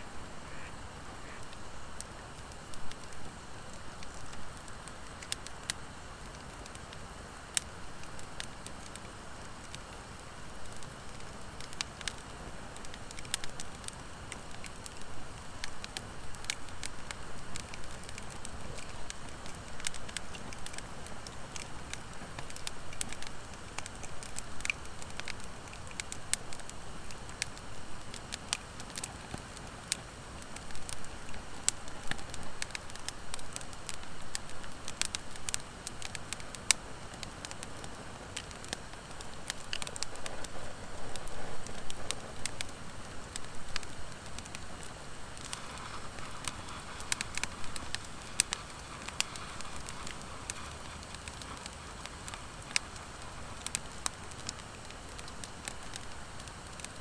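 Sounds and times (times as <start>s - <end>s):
wood fire crackling and popping: 0.2s - 57.0s
low rush of flame: 10.8s - 57.0s.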